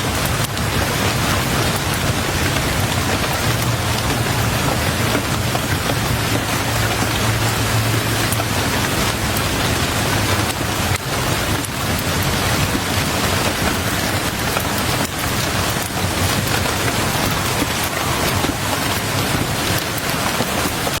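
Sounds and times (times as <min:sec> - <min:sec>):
heavy rain on a window: 0:00.0 - 0:21.0.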